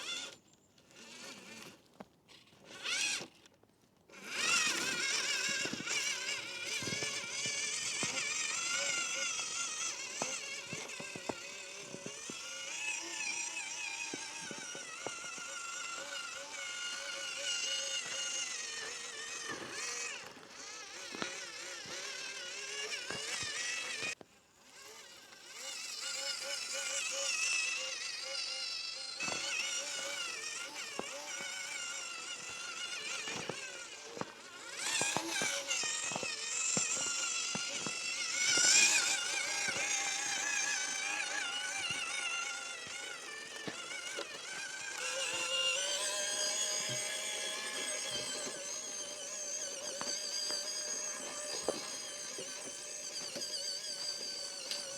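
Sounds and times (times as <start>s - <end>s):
electric motor and gears whining: 0.0s - 54.9s.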